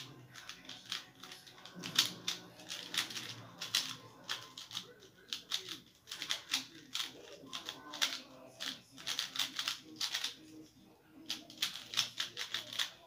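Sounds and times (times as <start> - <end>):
puzzle cube plastic clicks: 0.0 - 10.4, 11.3 - 13.0.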